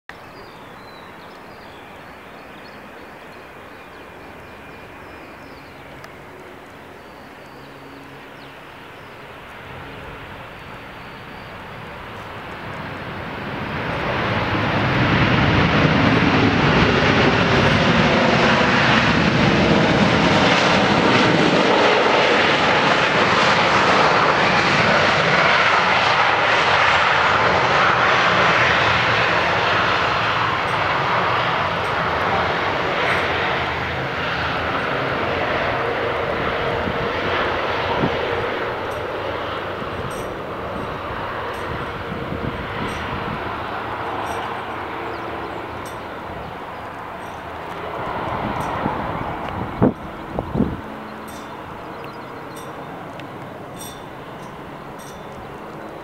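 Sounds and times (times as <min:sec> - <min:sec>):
jet airliner landing: 0:00.1 - 0:56.0.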